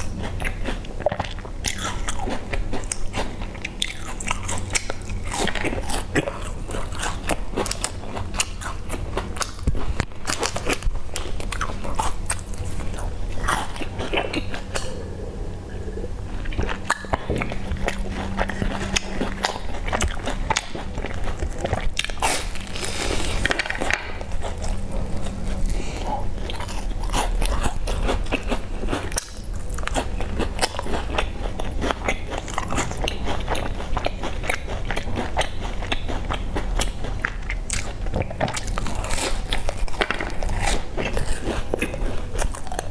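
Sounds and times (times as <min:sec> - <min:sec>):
crunching and chewing biscuits: 0:00.0 - 0:42.9.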